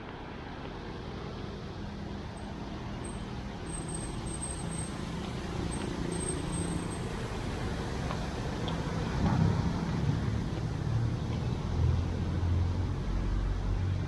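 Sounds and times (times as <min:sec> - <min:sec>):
passing vehicles rumbling: 0:00.0 - 0:14.0.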